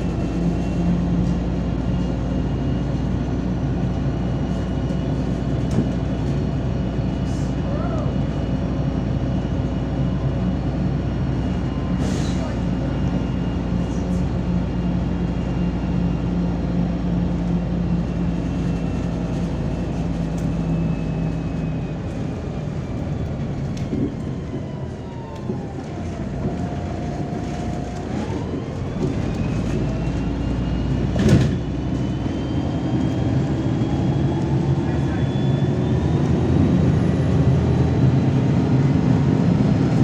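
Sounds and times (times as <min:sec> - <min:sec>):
bus engine whine: 0:00.0 - 0:40.0.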